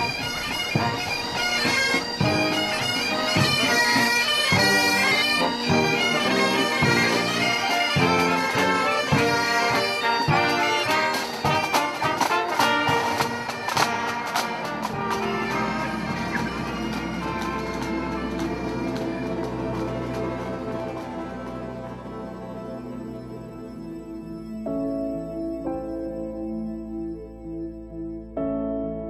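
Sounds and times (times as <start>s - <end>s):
bagpipes playing a melody: 0.0s - 24.6s.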